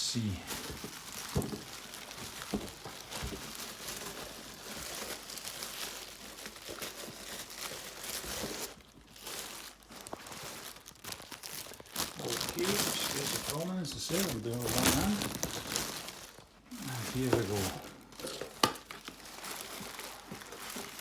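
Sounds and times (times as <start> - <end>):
packaging crinkling: 0.2 - 21.0.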